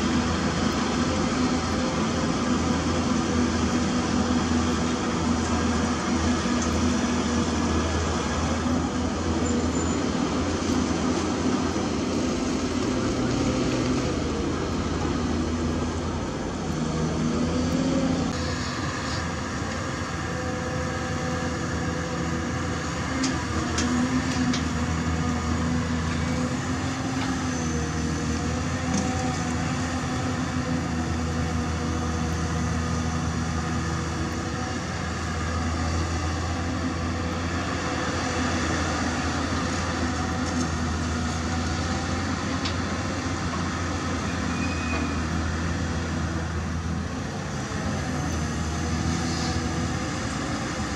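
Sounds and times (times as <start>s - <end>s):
excavator diesel engine humming: 0.0s - 50.9s.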